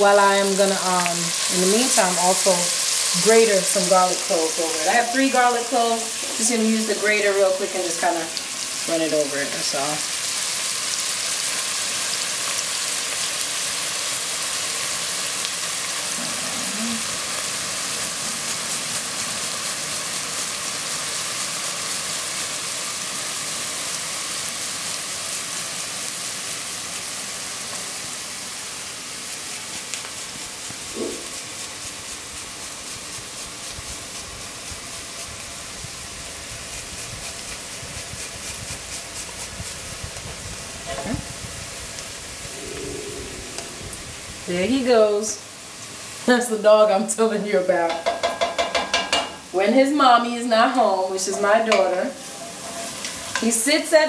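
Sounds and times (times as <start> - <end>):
vegetables sizzling in butter: 0.0 - 54.0.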